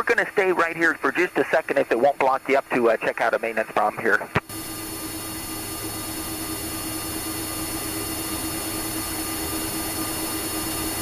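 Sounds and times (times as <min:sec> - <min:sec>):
cockpit engine drone: 0:00.0 - 0:11.0.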